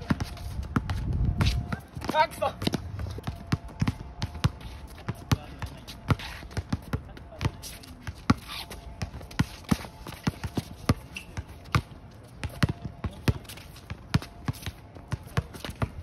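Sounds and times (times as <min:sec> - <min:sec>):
basketball bouncing on hard court: 0:00.0 - 0:16.0.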